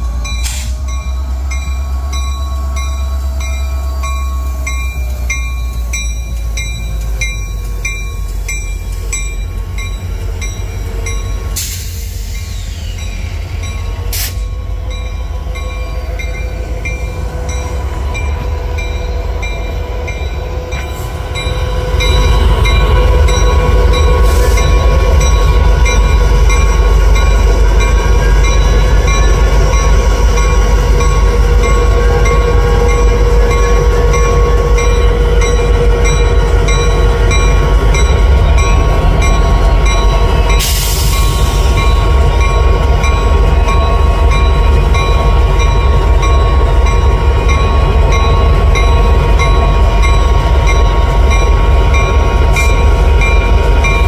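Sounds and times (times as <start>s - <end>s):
diesel locomotive engine rumble: 0.0s - 54.0s.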